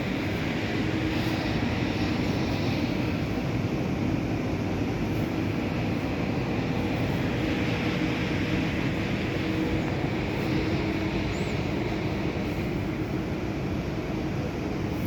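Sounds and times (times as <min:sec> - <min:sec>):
electric trains rumbling: 0:00.0 - 0:15.0.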